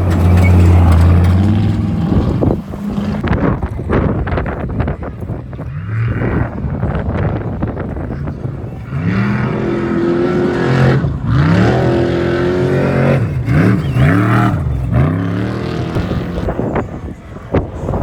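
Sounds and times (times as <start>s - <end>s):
race vehicle engine revving: 0.0s - 18.0s.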